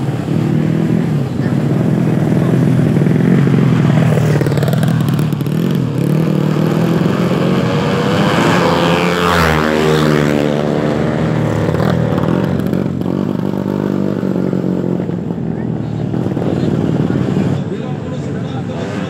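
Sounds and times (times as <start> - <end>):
motorcycle engines running loud: 0.0 - 19.0
racing motorcycle passing by: 0.0 - 19.0.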